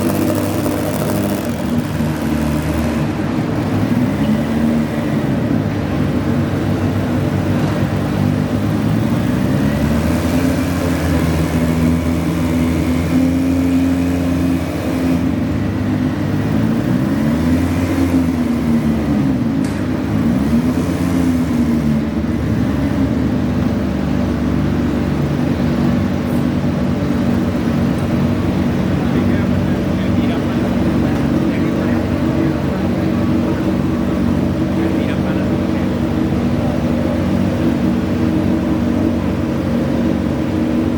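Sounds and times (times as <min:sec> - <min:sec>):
tractor engine revving: 0:00.0 - 0:40.9.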